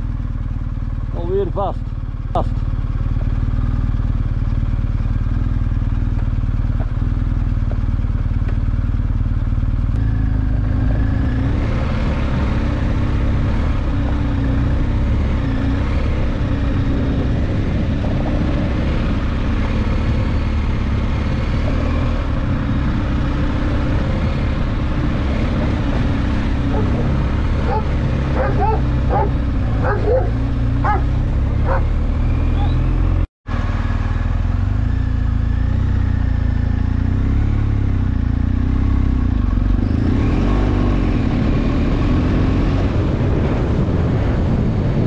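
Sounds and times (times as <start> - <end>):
motorcycle engine: 0.0 - 45.0.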